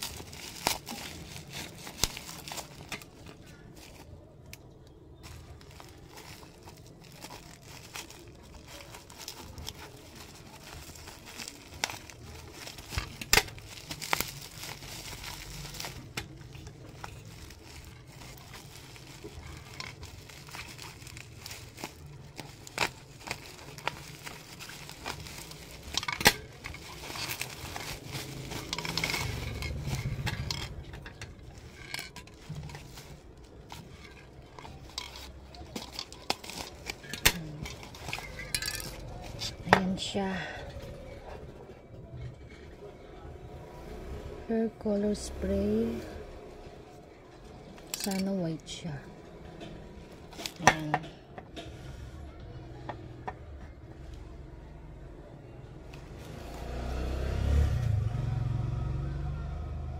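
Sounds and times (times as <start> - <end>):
bubble wrap crinkling: 0.0 - 43.2, 45.1 - 51.4.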